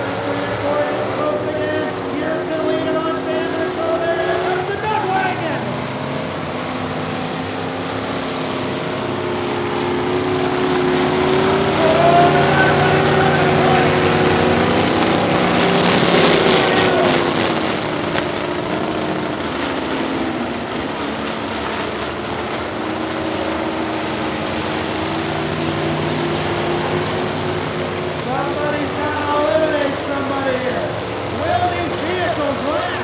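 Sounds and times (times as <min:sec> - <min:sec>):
truck engines revving: 0:00.0 - 0:33.0.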